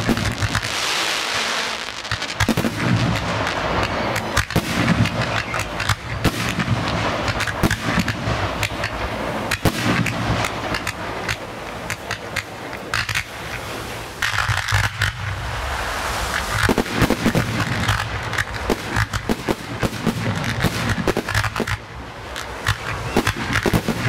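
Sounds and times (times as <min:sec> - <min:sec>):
sharp firework bangs: 0:00.0 - 0:13.3, 0:14.2 - 0:24.0
fireworks hissing crackle: 0:00.0 - 0:24.0.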